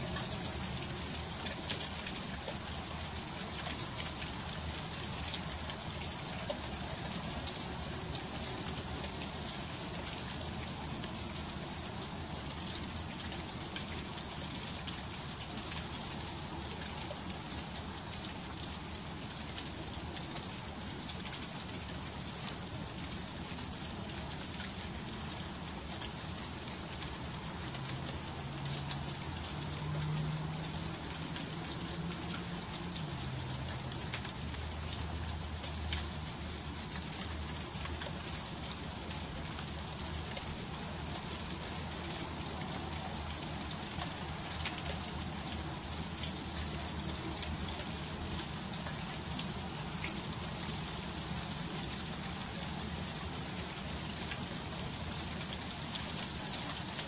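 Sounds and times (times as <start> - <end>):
freezing rain ticking on ice: 0.0 - 57.0.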